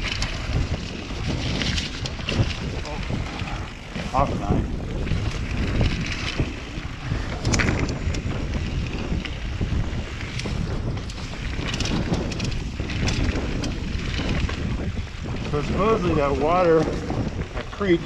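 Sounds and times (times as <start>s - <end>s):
bike and helmet rattling: 0.0s - 18.0s
tyres rumbling on dirt: 0.0s - 18.0s
wind buffeting microphone: 0.0s - 18.0s.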